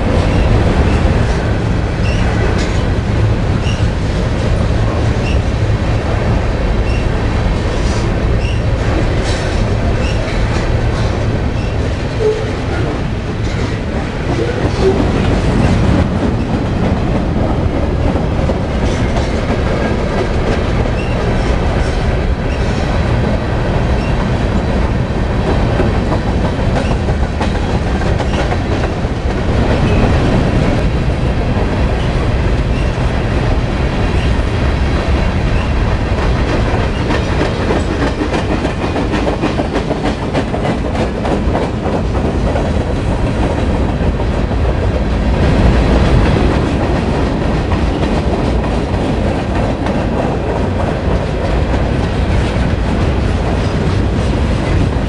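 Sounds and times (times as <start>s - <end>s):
freight train rumbling past: 0.0s - 55.0s
steel wheels clicking on rails: 0.0s - 55.0s.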